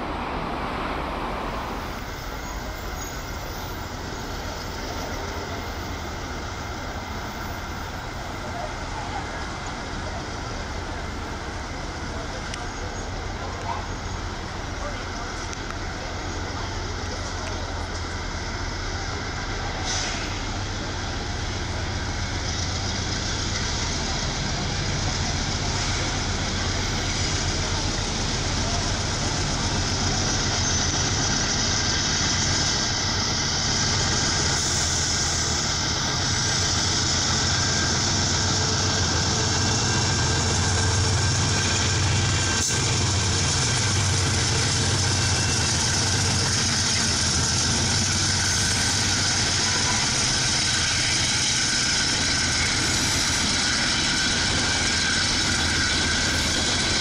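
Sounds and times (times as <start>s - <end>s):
locomotive engine drone: 0.0s - 57.0s
steel wheels rolling on rails: 1.8s - 57.0s.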